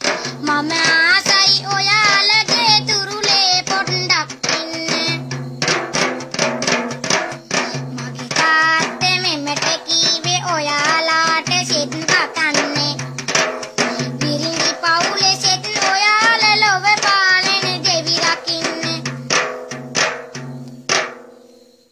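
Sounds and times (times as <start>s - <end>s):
boy singing: 0.0s - 6.0s, 7.0s - 19.4s.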